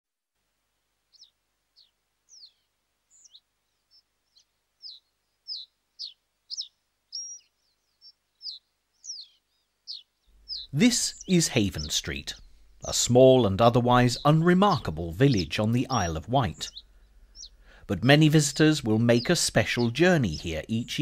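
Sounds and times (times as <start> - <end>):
small bird chirping: 1.1 - 21.0.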